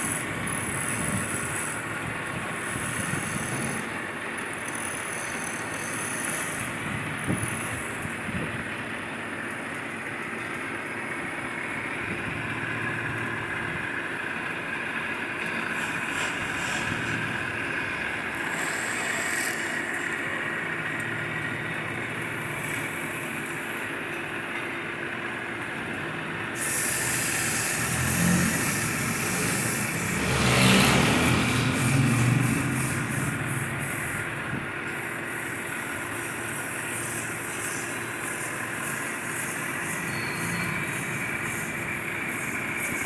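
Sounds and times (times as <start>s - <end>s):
power tool running: 0.0s - 8.4s, 11.6s - 24.6s, 26.5s - 43.0s.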